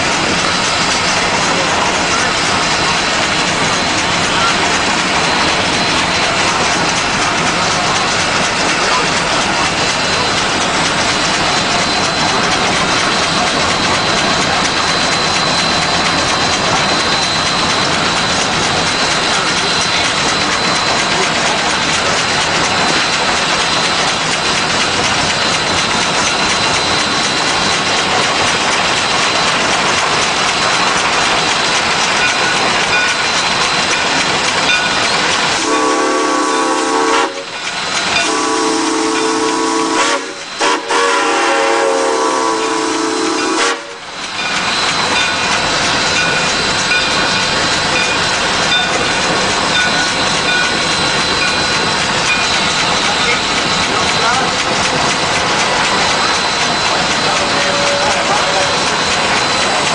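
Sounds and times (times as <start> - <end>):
locomotive running clatter: 0.0 - 59.9
steam hiss: 0.0 - 59.9.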